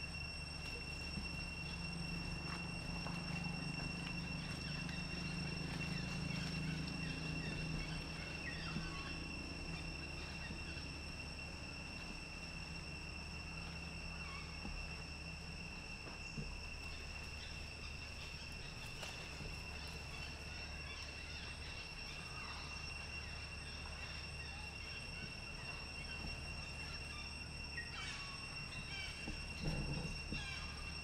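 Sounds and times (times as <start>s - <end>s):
faint low hum: 0.0s - 31.0s
high-pitched insect trill: 0.0s - 31.0s.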